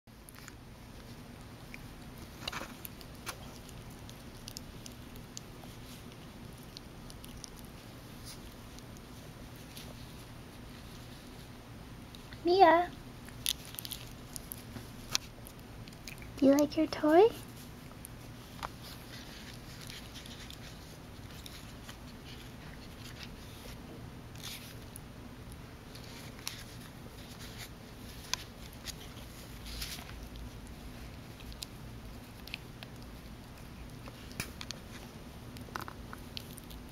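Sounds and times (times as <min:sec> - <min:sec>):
steady low hum: 0:00.1 - 0:36.9
puppy chewing fabric toy: 0:00.2 - 0:12.4, 0:13.2 - 0:16.6, 0:17.4 - 0:36.9.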